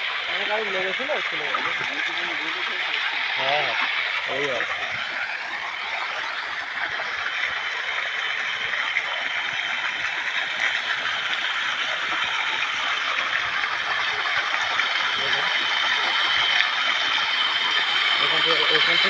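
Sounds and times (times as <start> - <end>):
water gushing into a pond: 0.0 - 19.0.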